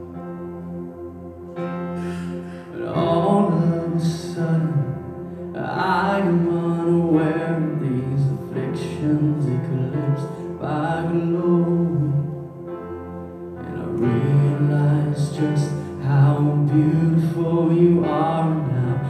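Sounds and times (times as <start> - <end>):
instrumental backing music: 0.0 - 19.0
person singing long notes: 1.9 - 12.7, 13.6 - 19.0.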